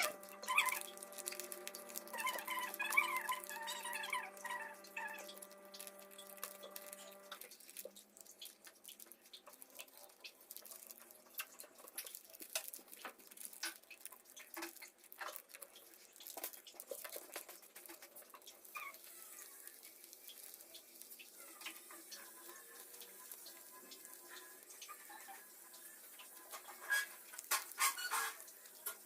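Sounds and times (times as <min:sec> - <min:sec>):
paper crinkling and tapping: 0:00.0 - 0:25.5, 0:26.1 - 0:29.0.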